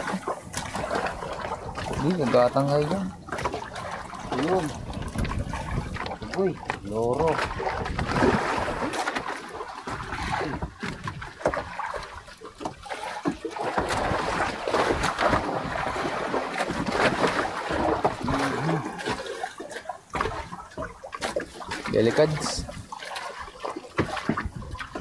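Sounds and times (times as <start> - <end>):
sea water splashing: 0.0 - 25.0.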